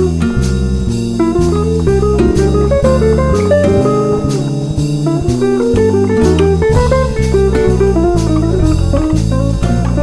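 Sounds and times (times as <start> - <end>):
bass line: 0.0 - 10.0
plucked guitar melody: 0.0 - 10.0
drums steady beat: 0.9 - 9.4.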